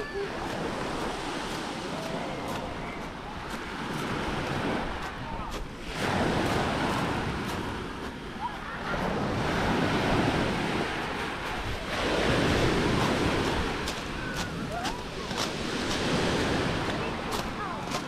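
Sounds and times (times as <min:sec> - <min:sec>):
waves washing onto pebbles: 0:00.0 - 0:18.0.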